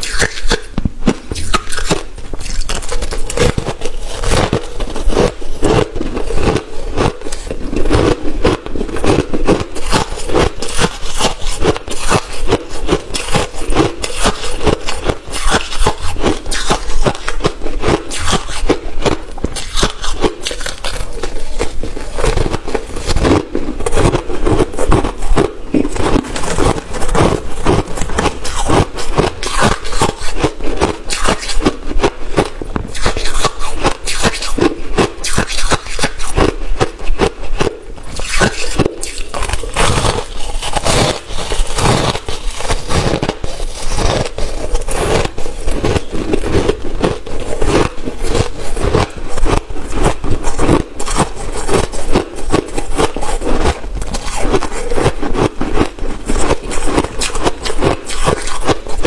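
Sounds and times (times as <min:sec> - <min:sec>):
ice being chewed crunching: 0:00.0 - 0:59.0.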